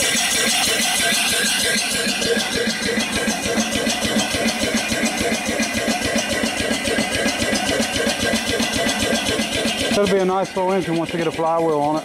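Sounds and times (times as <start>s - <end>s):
steam engine running: 0.0s - 12.0s.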